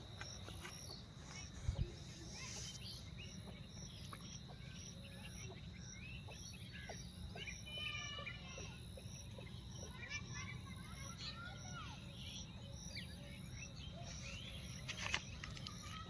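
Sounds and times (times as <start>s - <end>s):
high insect drone: 0.0s - 16.0s
small birds chirping: 0.0s - 16.0s.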